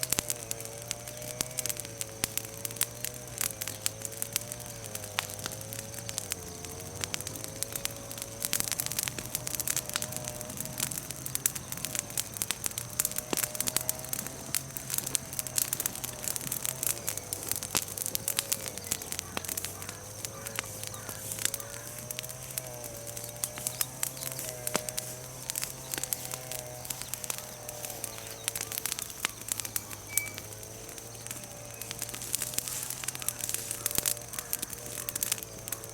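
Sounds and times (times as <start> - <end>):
bonfire crackling and popping: 0.0 - 35.9.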